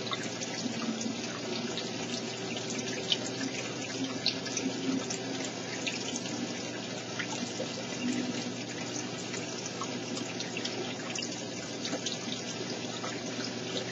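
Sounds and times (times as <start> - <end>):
water trickling and splashing: 0.0 - 13.9.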